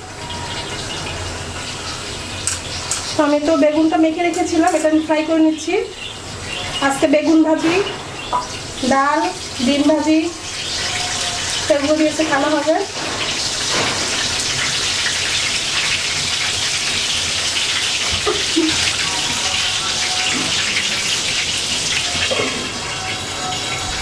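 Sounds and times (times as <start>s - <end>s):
eggplant sizzling in hot oil: 0.0s - 24.0s.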